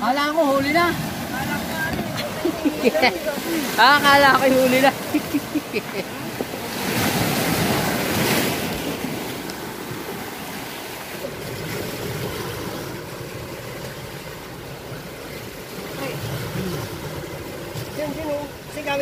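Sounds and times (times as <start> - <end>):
sea surf washing onto shore: 0.0 - 19.0.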